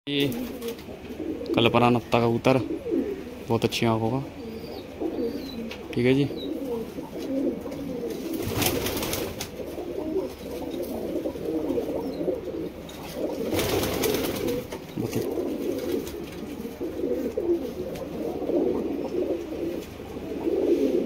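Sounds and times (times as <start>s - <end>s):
pigeons cooing: 0.1s - 21.0s.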